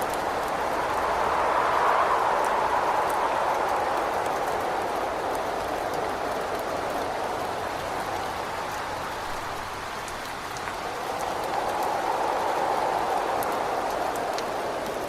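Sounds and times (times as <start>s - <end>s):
steady rain: 0.0s - 15.0s
whistling wind: 0.0s - 15.0s.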